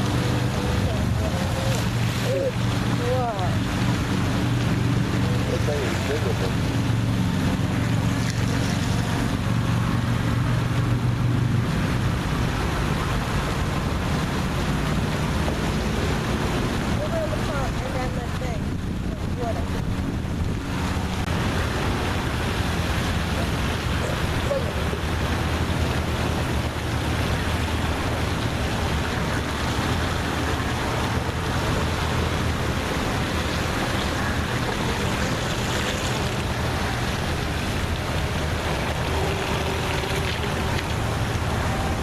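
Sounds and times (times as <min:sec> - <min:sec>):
water rushing: 0:00.0 - 0:42.0
wind on microphone: 0:00.0 - 0:42.0.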